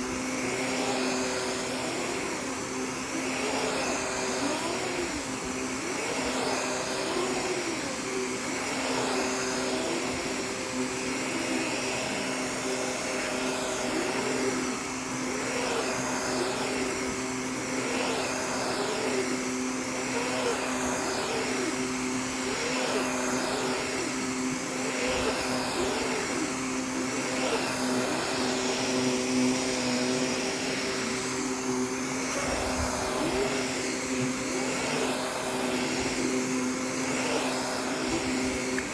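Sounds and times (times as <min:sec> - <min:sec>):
vacuum cleaner running over rug: 0:00.0 - 0:38.9.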